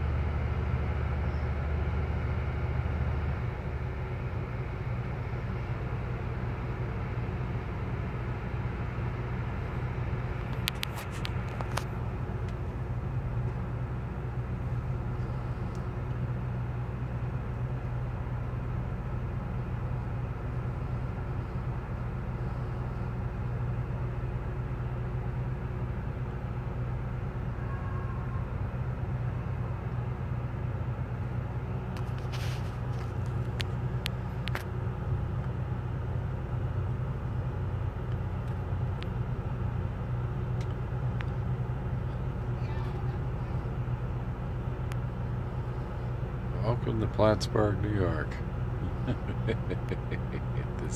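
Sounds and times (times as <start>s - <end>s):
ship diesel engines droning: 0.0s - 50.9s.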